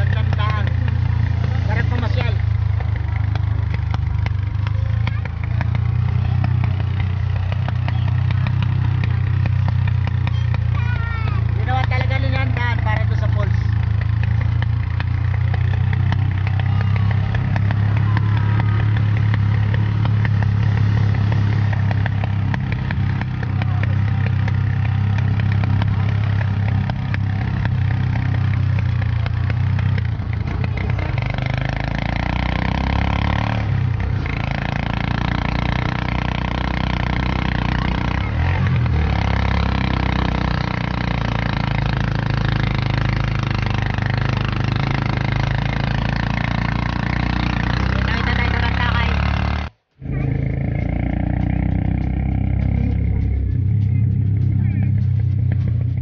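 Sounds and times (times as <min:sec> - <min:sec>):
motorcycle engine drone: 0:00.0 - 0:56.0
road and wind noise: 0:00.0 - 0:56.0.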